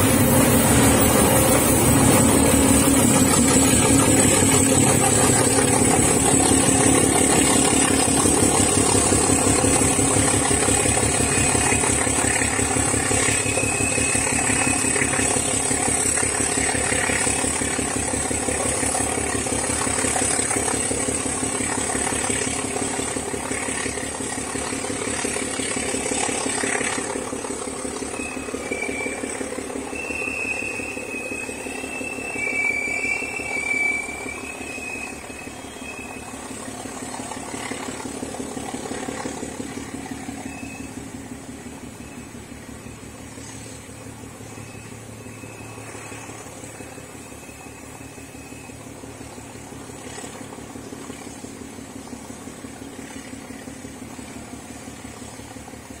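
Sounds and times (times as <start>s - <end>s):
diesel locomotive engine: 0.0s - 56.0s
high wheel squeals: 0.0s - 56.0s.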